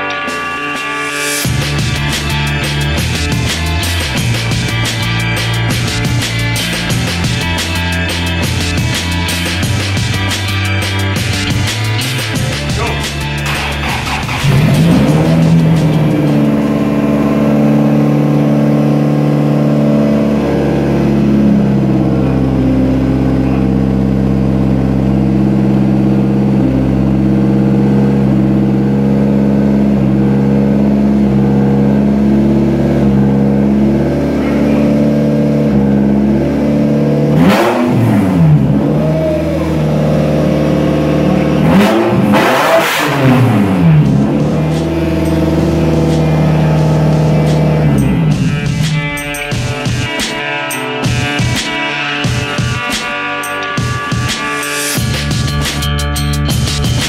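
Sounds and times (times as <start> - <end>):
car engine idling and revving: 0.0 - 53.1.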